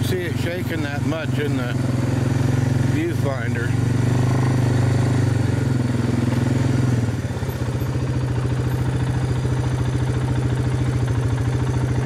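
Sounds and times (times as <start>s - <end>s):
atv engine running and idling: 0.0s - 12.0s.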